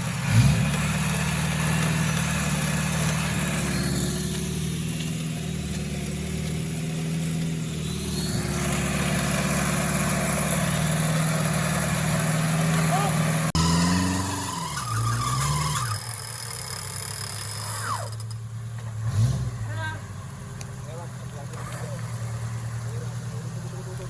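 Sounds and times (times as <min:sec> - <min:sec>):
engine revving: 0:00.0 - 0:24.0
engine running at low revs: 0:00.0 - 0:24.0.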